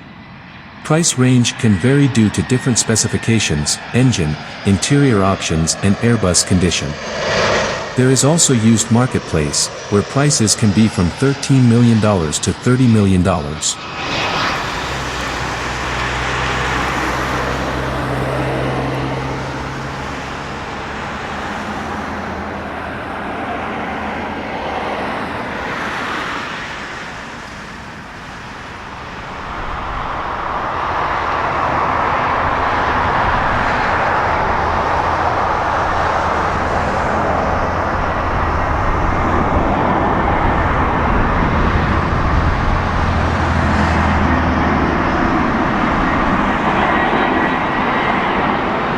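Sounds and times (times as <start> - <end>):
jet airliner engine roar: 0.0 - 48.9.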